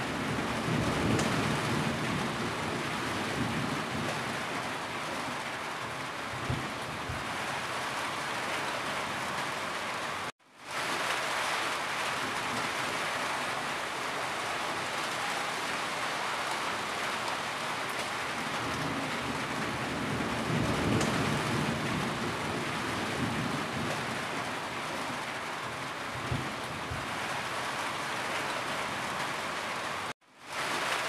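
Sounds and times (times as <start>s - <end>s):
rain on a tin roof: 0.0s - 31.0s.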